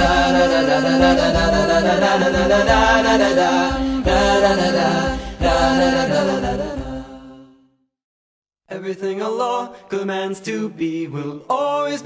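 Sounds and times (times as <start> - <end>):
a cappella chant over low drone: 0.0 - 7.6, 8.7 - 12.0.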